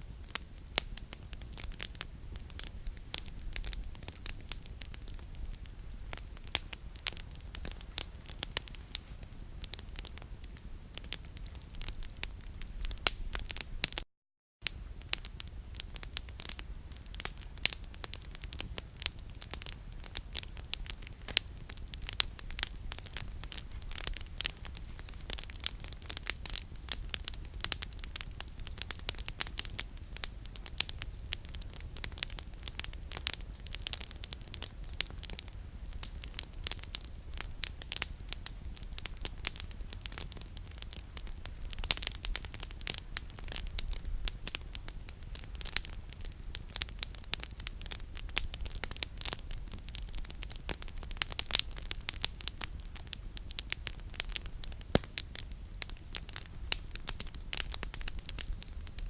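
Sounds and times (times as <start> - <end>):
campfire crackling: 0.0 - 14.0, 14.6 - 59.0.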